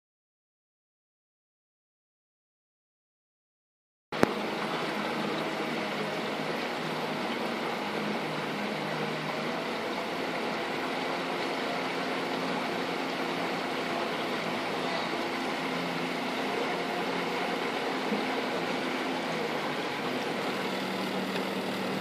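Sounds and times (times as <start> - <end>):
boat motor running: 4.2 - 22.0.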